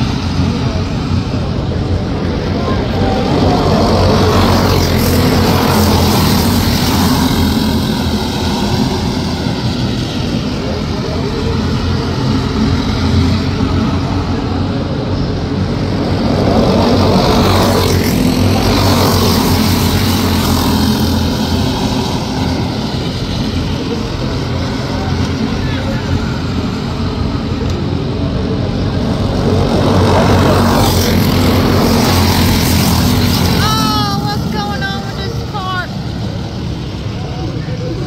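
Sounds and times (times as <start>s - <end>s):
go-kart engines droning: 0.0s - 38.0s.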